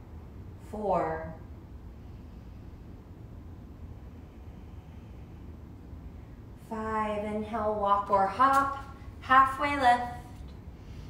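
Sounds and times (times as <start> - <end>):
low room noise rumble: 0.0 - 11.0.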